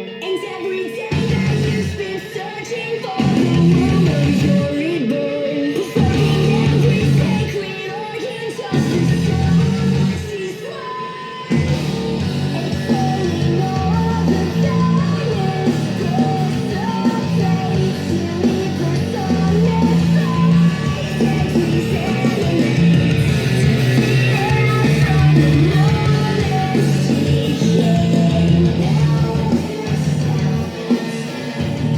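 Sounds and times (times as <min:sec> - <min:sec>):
high-pitched singing: 0:00.0 - 0:11.7, 0:12.6 - 0:31.3
electric guitars: 0:00.0 - 0:31.9.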